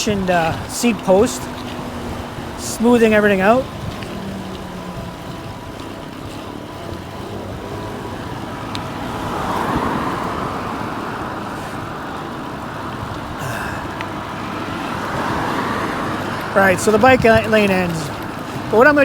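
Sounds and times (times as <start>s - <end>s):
car passing close by: 0.0s - 19.0s
road traffic noise: 0.0s - 19.0s.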